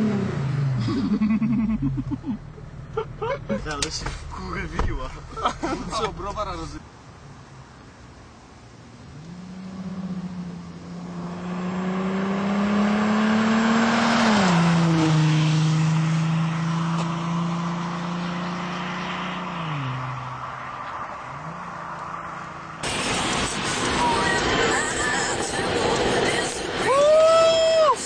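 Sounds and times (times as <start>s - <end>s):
diesel car accelerating: 0.0s - 28.0s.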